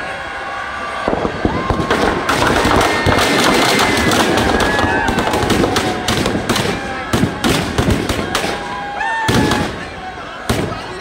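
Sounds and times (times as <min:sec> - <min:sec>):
firecrackers going off: 0:01.0 - 0:11.0.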